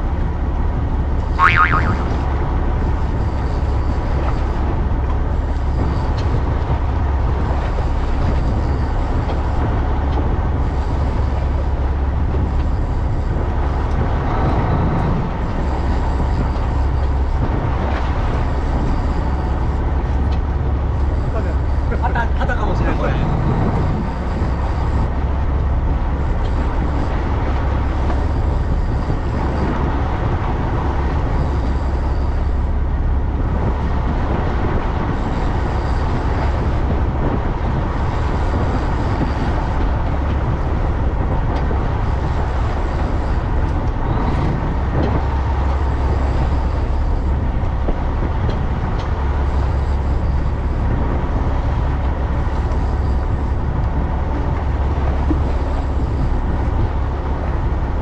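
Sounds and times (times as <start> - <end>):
boat engine drone: 0.0 - 58.0
rushing wind and water: 0.0 - 58.0.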